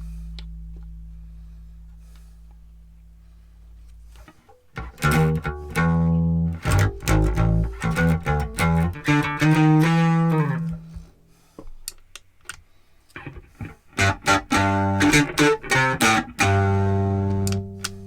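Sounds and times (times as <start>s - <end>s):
electric bass guitar notes: 0.0s - 11.2s, 13.2s - 18.0s.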